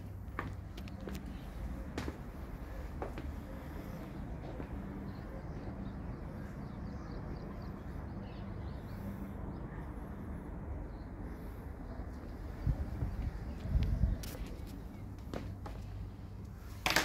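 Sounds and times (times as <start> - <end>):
small birds chirping: 0.0 - 16.7
steady low rumble: 0.0 - 16.8.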